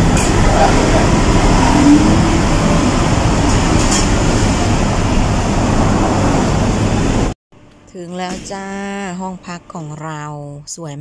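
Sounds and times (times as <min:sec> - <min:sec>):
low rumbling background noise: 0:00.0 - 0:10.6.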